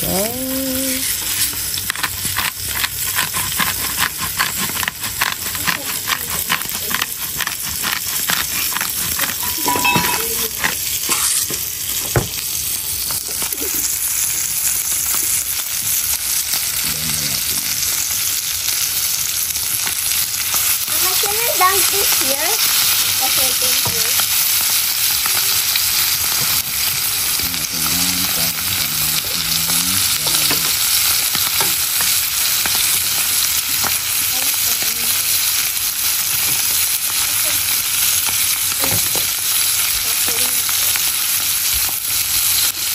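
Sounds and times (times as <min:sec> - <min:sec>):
steaks sizzling in frying pan: 0:00.0 - 0:42.9.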